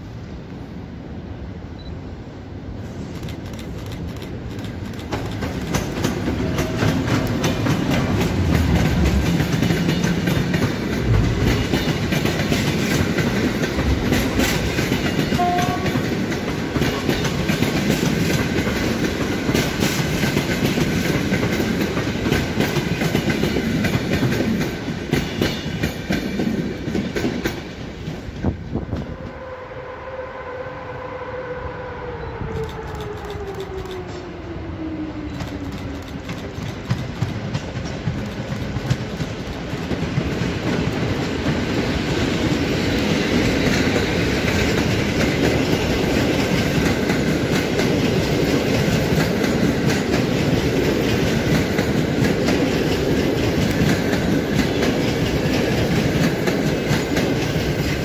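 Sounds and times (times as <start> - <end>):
electric locomotive passing: 0.0 - 58.0
train wheels clattering over rail joints: 3.1 - 28.6, 35.4 - 58.0.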